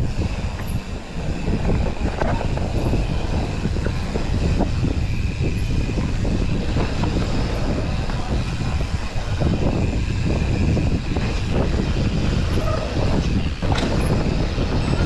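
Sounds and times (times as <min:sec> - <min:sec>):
bike knocks and rattles: 0:00.0 - 0:15.0
bike tyre rumble on dirt: 0:00.0 - 0:15.0
wind on microphone: 0:00.0 - 0:15.0.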